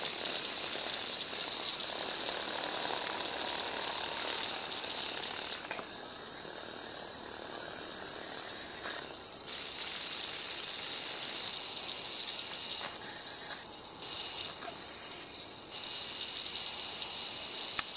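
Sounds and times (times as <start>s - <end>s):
cicadas buzzing: 0.0s - 17.9s.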